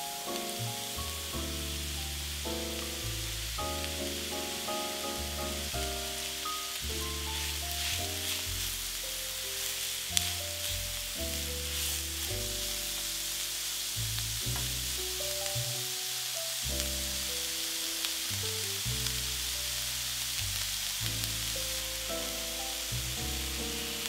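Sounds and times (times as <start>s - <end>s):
background music with melody: 0.0s - 20.0s, 21.0s - 24.0s
vegetables sizzling in a frying pan: 0.0s - 24.0s.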